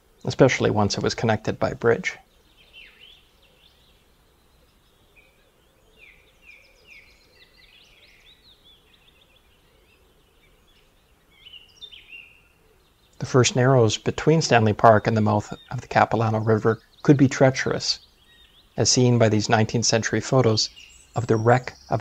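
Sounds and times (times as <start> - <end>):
birds chirping: 0.0 - 22.0
faint steady hiss: 0.0 - 22.0.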